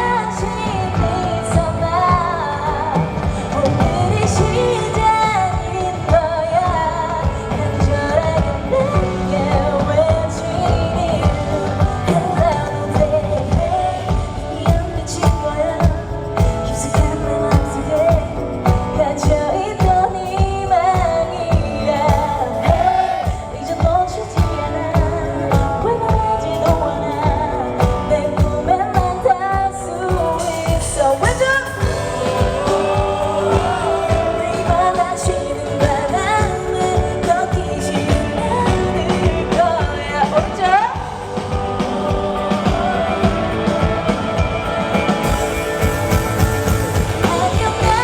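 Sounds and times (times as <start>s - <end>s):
live band with drum beat: 0.0s - 48.0s
woman singing pop ballad: 0.0s - 48.0s.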